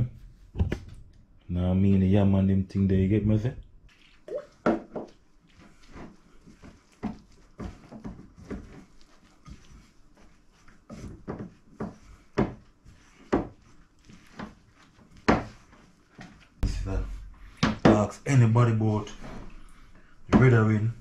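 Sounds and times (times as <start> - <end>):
hands kneading dough: 3.9 - 21.0.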